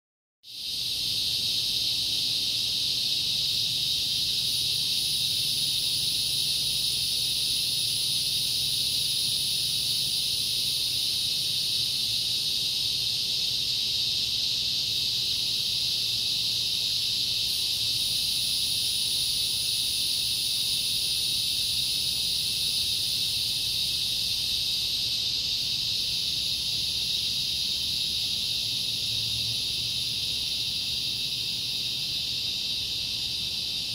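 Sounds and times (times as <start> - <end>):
insects droning: 0.5 - 33.9.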